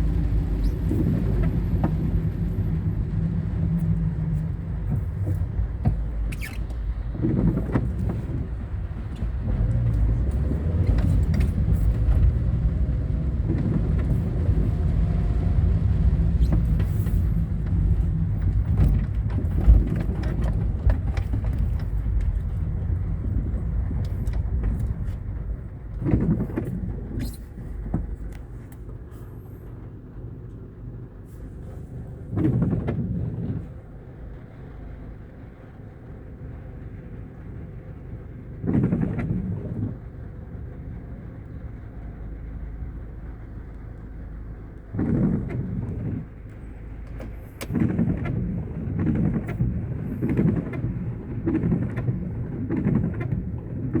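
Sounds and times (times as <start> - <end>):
low rumbles: 0.0 - 54.0.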